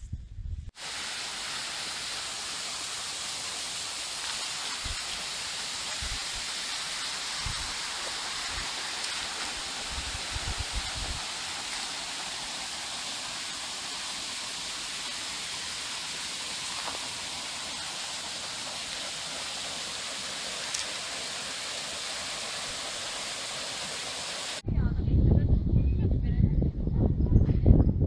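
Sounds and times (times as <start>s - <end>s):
stream rushing over stones: 0.8s - 24.6s.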